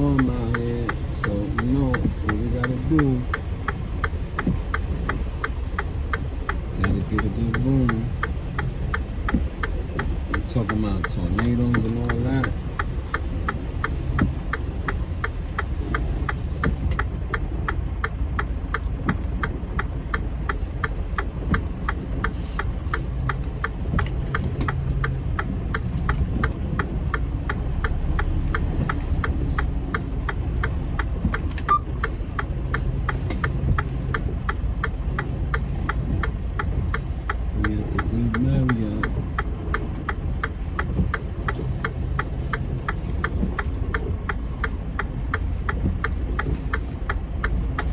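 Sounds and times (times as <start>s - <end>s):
diesel engine idling: 0.0s - 47.9s
rain: 0.0s - 47.9s.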